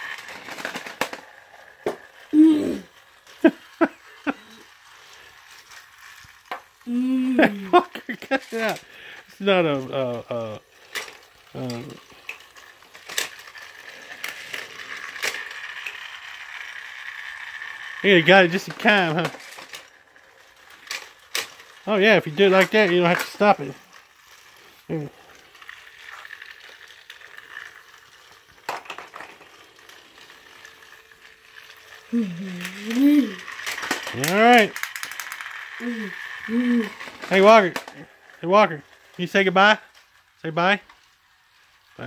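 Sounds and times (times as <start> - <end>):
toy train motor whirring: 0.0 - 42.0.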